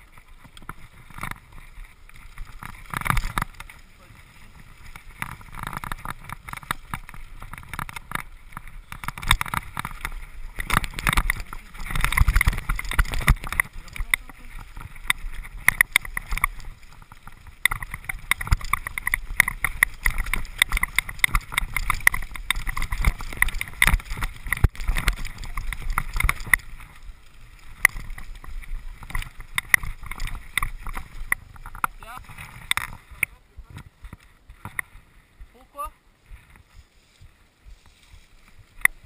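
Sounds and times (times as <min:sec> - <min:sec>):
bike rattling over stones: 0:00.0 - 0:39.0.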